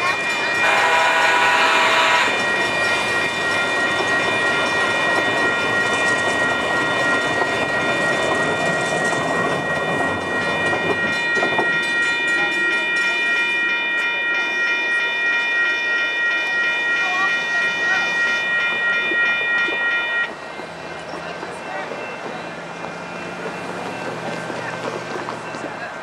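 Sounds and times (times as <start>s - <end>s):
diesel locomotive engine and wheels: 0.0s - 26.0s
locomotive bell ringing: 0.0s - 26.0s.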